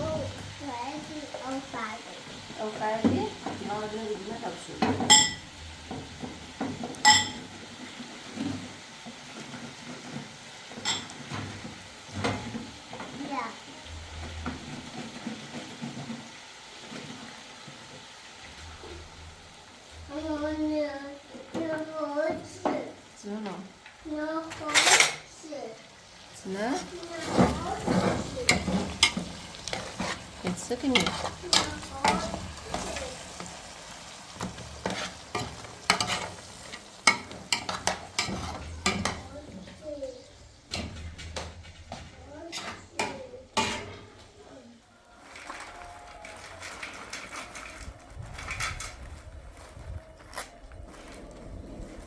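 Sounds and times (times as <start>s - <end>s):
food sizzling in a pan: 0.0s - 48.3s.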